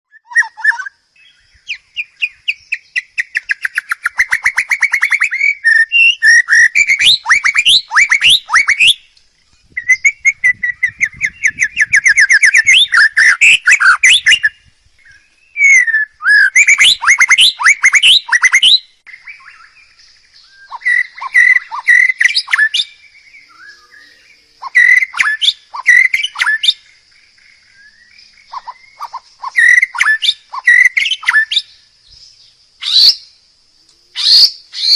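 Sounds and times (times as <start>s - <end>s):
songbird singing trills: 0.1s - 34.9s.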